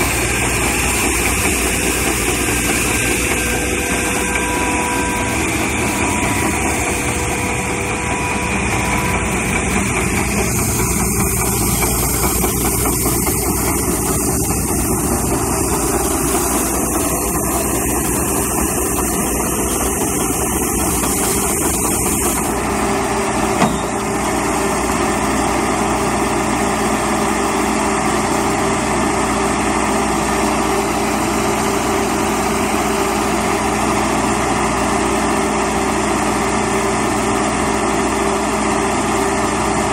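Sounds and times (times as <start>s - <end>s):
street sweeper running: 0.0s - 39.9s.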